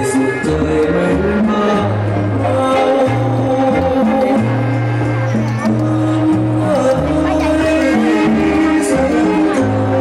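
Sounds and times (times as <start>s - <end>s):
dance music: 0.0s - 10.0s.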